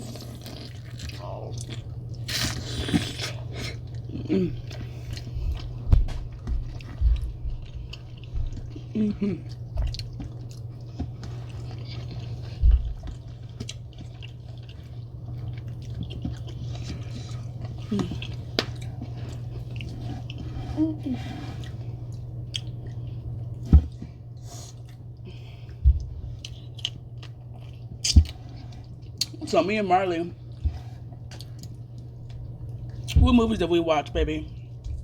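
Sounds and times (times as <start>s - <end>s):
chewing and wet mouth sounds: 0.0s - 20.7s, 21.5s - 23.6s, 24.4s - 29.6s, 30.4s - 33.2s
steady low hum: 0.0s - 35.0s.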